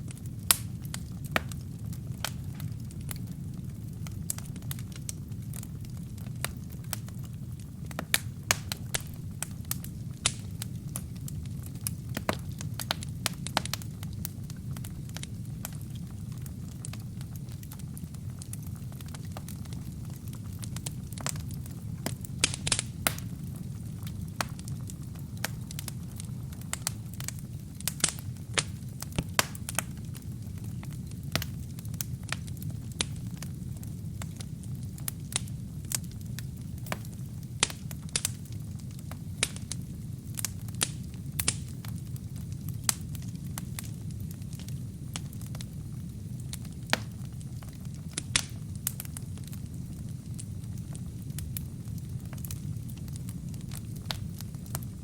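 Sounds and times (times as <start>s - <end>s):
fire rumbling: 0.0s - 55.0s
wood crackling and popping: 0.0s - 55.0s.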